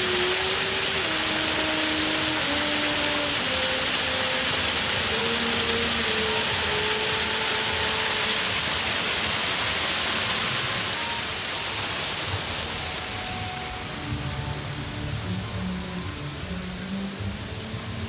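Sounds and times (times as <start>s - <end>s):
waterfall pouring into pool: 0.0s - 18.0s.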